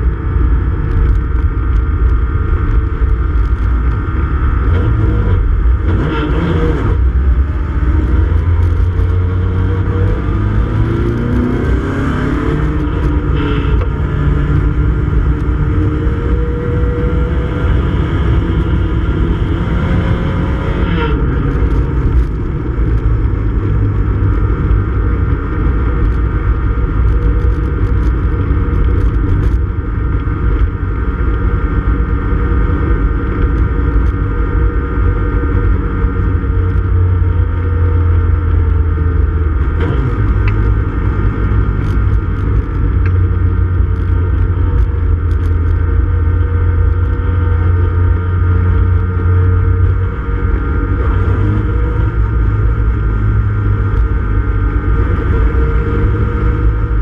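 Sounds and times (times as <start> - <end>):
race car engine rumbling: 0.0 - 57.0.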